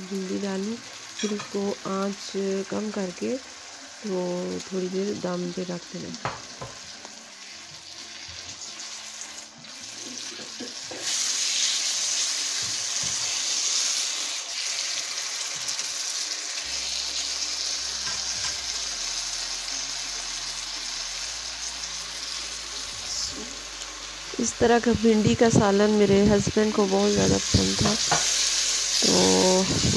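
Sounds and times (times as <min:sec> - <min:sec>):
onions sizzling in oil: 0:00.0 - 0:29.9.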